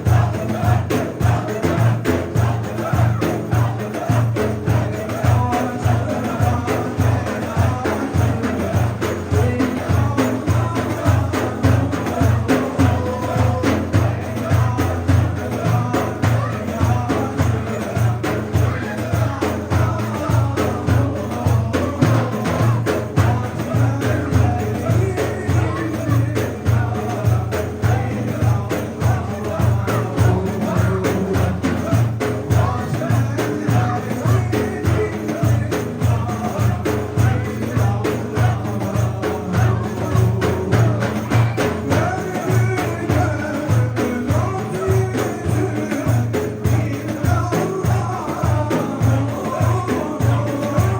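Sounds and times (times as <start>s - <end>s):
hymn melody: 0.0s - 50.9s
steady percussion beat: 0.0s - 50.9s.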